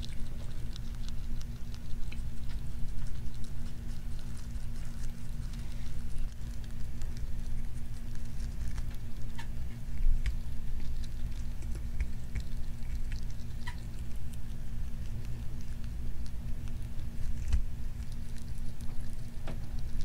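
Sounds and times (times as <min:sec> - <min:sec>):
rat chewing: 0:00.0 - 0:20.0
steady low hum: 0:00.0 - 0:20.0.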